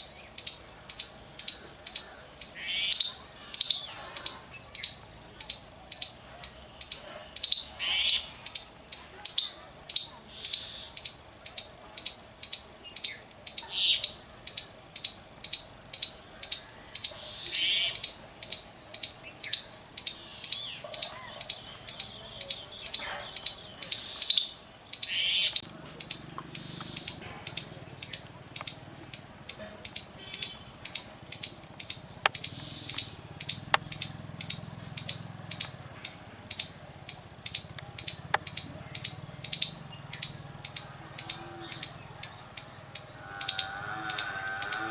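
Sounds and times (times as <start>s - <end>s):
squirrel chirping: 0.0s - 44.9s.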